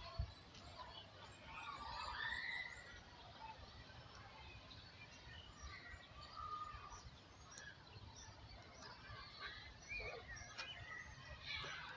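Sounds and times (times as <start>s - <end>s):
faint birds chirping: 0.0s - 11.9s.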